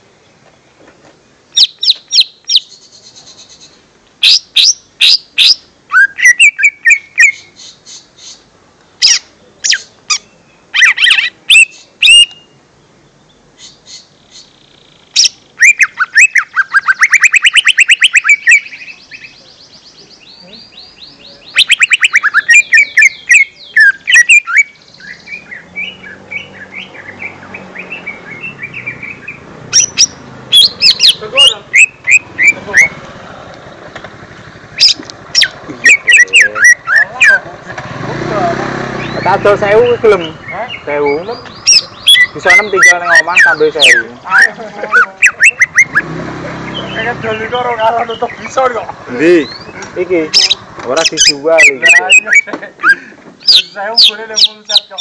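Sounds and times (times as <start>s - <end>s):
bird singing and calling: 1.5s - 55.0s.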